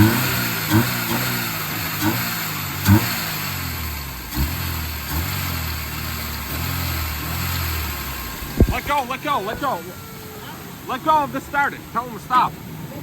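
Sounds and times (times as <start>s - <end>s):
car engine running unevenly: 0.0s - 13.0s.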